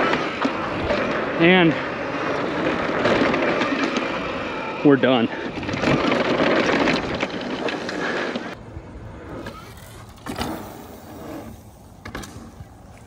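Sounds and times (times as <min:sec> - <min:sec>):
bike rolling over dirt: 0:00.0 - 0:13.0.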